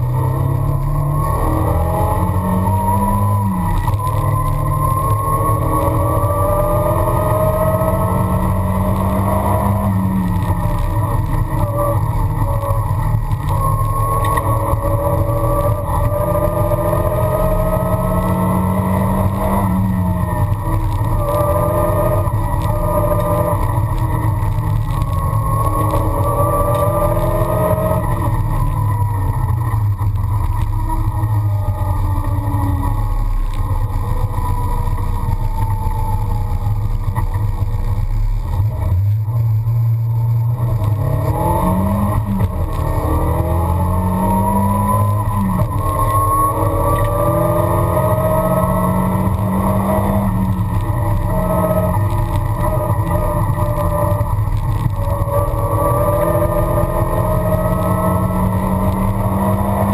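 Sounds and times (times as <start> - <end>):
car engine pulling hard: 0.0 - 59.9.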